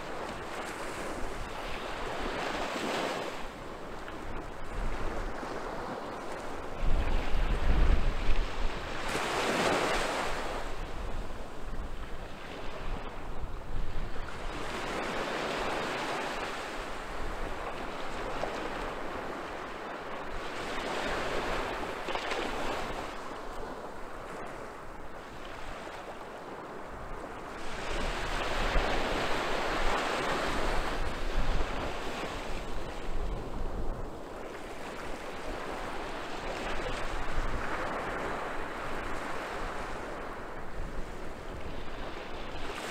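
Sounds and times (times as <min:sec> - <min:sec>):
waves washing up a sandy beach: 0:00.0 - 0:42.9
wind rumble on microphone: 0:00.0 - 0:42.9.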